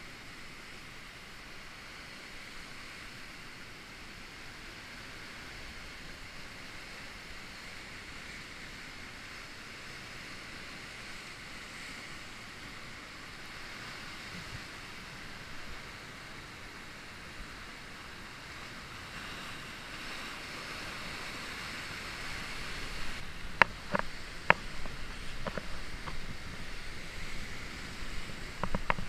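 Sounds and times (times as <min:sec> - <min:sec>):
surf breaking on rocks: 0:04.7 - 0:29.0.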